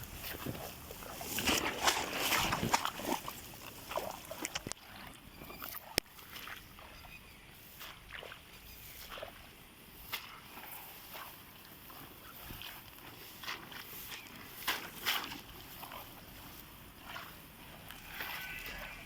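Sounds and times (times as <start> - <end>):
shallow water sloshing: 0.0 - 19.0.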